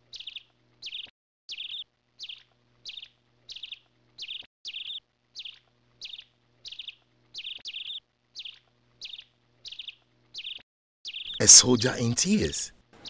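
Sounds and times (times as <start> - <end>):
small bird chirping: 0.0 - 11.4.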